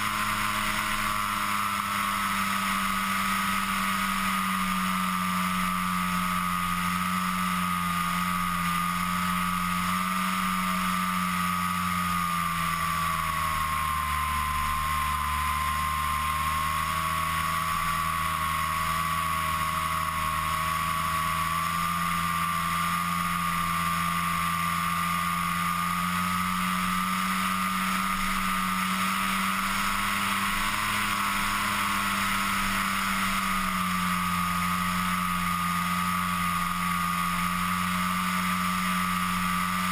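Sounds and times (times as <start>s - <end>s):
model aircraft motor whine: 0.0s - 39.9s.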